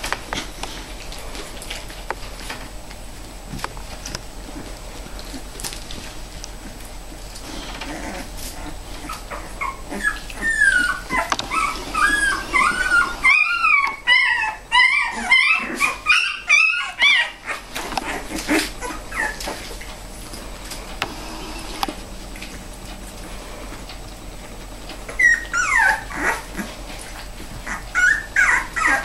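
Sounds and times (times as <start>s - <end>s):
puppies whimpering and squealing: 3.9s - 29.0s.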